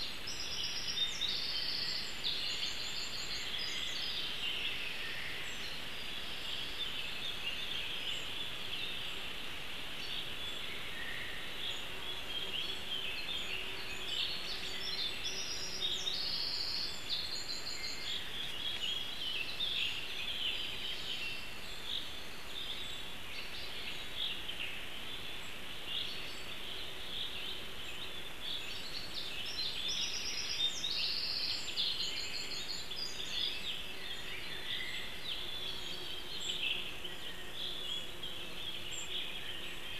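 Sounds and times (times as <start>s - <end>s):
songbird chorus chirping: 0.0s - 39.9s.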